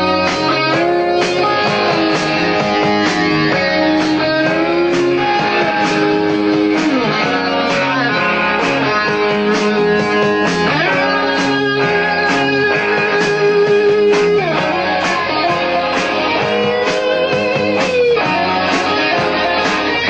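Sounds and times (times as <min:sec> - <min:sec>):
lead guitar bending notes: 0:00.0 - 0:20.0
rock band playing live: 0:00.0 - 0:20.0
steady drum beat: 0:00.0 - 0:20.0.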